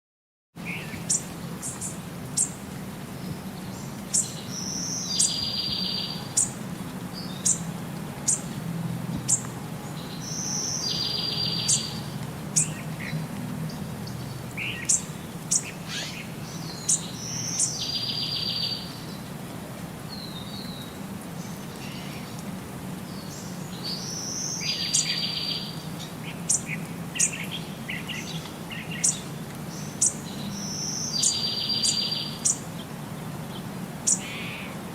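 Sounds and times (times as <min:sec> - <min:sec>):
birds chirping: 0:00.6 - 0:08.6, 0:09.2 - 0:19.3, 0:20.1 - 0:34.8.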